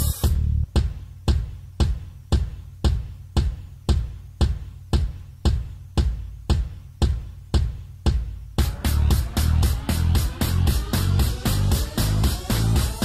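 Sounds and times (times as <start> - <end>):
deep bass kick: 0.0 - 13.0
music with drum beat: 0.0 - 13.0.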